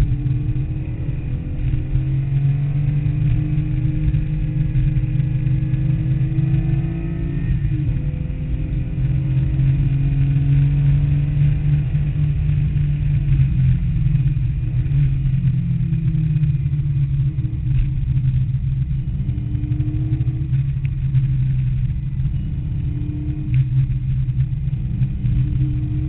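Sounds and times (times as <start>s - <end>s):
car engine revving in cabin: 0.0s - 26.0s.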